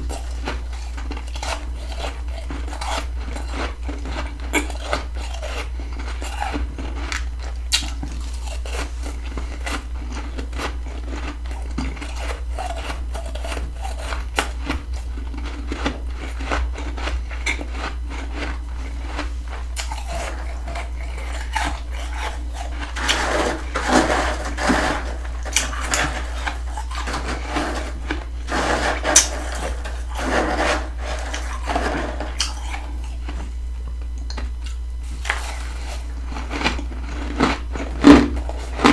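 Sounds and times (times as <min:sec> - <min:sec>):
frost being chewed crunching: 0:00.0 - 0:38.9.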